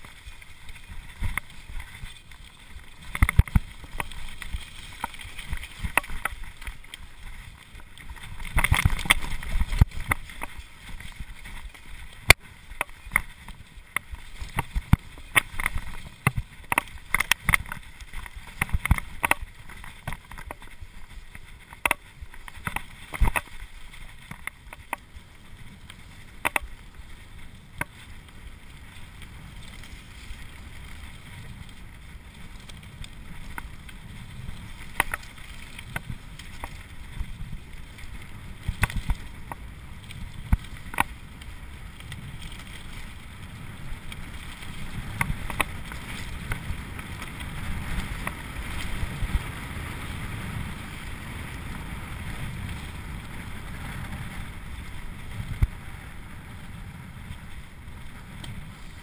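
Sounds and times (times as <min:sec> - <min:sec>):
bike clicking and rattling: 0:00.0 - 0:59.0
bike tyres rumbling on gravel: 0:00.0 - 0:59.0
wind noise: 0:00.0 - 0:59.0.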